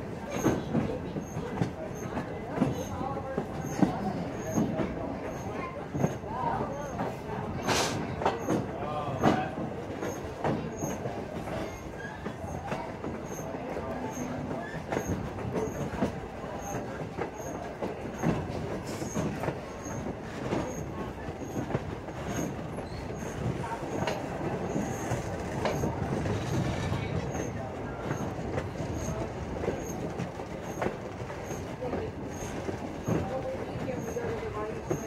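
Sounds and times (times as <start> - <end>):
railroad car rumble: 0.0 - 35.0.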